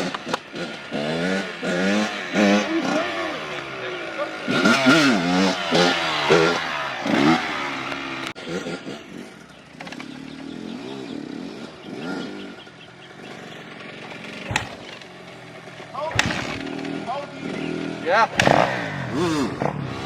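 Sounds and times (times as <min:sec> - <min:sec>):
dirt bike engines revving: 0:00.0 - 0:20.0
distant dirt bike revving: 0:00.0 - 0:20.0.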